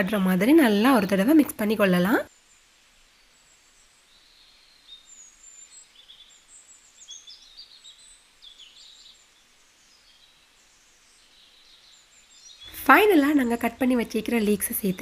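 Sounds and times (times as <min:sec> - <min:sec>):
birds chirping and twittering: 0:00.0 - 0:15.0
low background hiss: 0:00.0 - 0:15.0.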